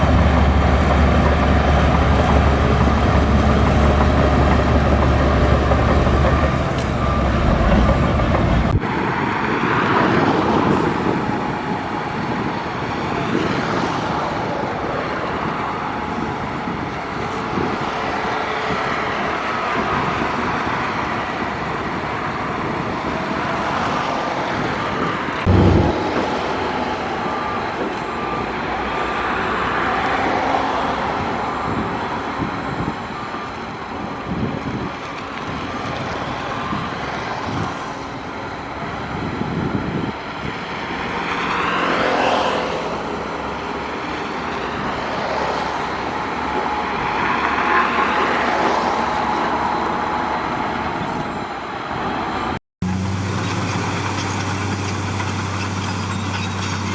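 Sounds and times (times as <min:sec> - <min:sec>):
diesel earthmoving machinery: 0:00.0 - 0:56.9.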